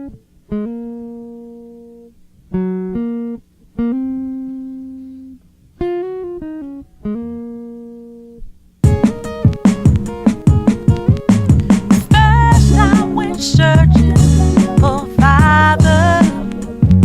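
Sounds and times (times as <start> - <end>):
solo guitar picking notes: 0.0 - 17.0.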